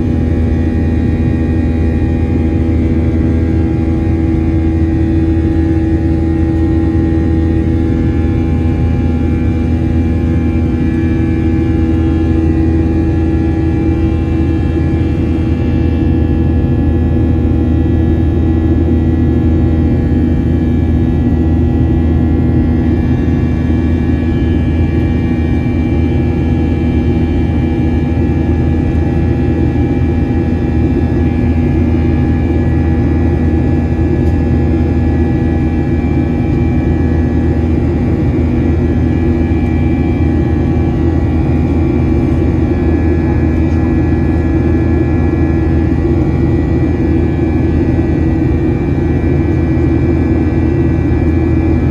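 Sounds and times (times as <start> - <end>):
jet engines roaring: 0.0 - 51.9
steady engine whine: 0.0 - 51.9.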